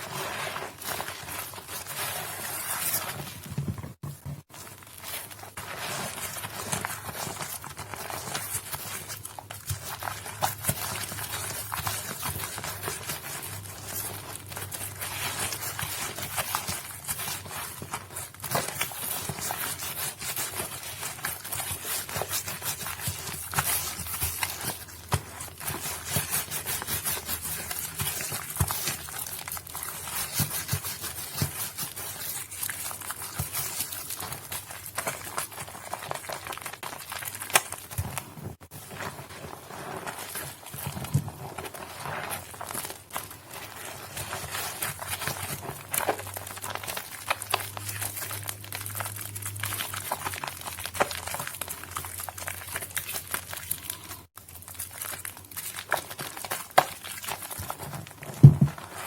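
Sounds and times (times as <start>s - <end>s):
wet soap crackling and clicking: 0.0s - 59.0s.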